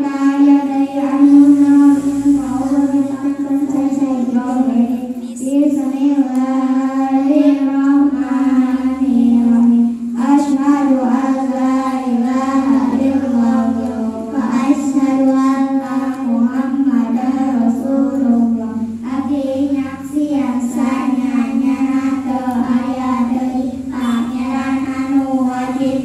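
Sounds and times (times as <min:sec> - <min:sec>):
girls singing in unison: 0:00.0 - 0:26.0.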